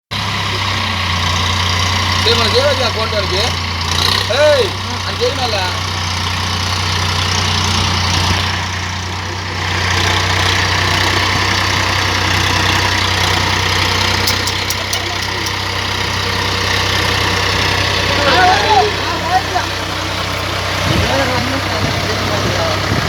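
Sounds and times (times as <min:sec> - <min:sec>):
tractor diesel engine running: 0:00.1 - 0:23.0.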